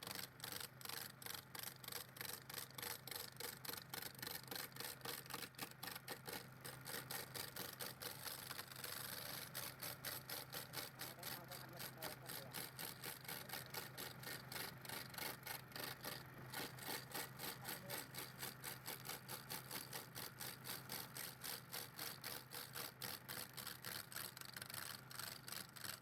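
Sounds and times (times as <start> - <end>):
wood rasping: 3.9 - 26.0.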